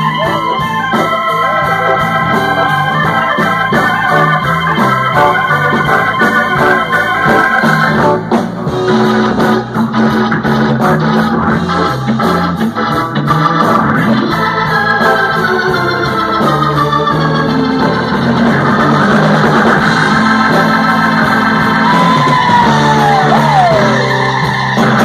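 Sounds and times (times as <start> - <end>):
bass line: 0.0 - 25.0
hammond organ playing chords: 0.0 - 25.0.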